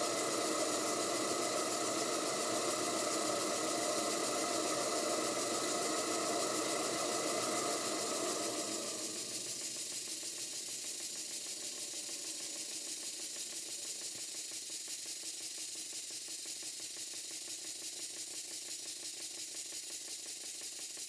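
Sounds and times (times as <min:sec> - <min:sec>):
steam engine clatter: 0:00.0 - 0:21.0
steam hiss: 0:00.0 - 0:21.0.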